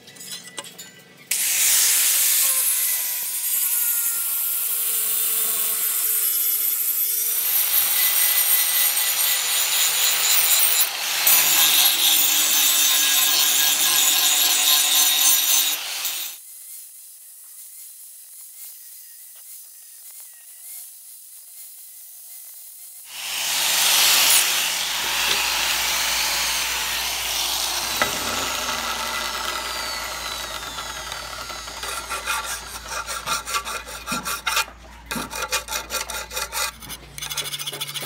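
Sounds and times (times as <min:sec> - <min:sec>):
angle grinder grinding metal: 0:01.3 - 0:16.4, 0:17.6 - 0:38.0.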